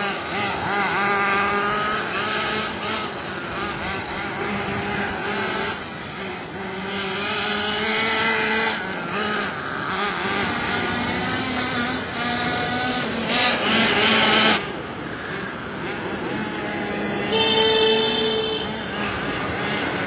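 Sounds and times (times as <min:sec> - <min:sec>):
small two-stroke engine buzzing: 0:00.0 - 0:20.0.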